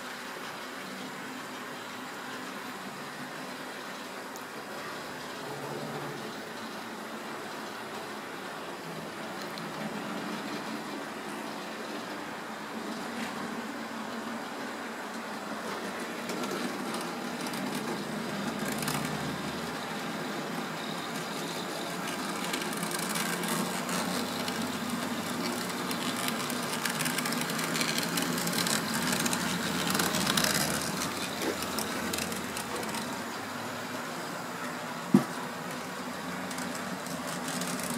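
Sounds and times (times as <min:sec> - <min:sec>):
model train rumbling on track: 0:00.0 - 0:37.9.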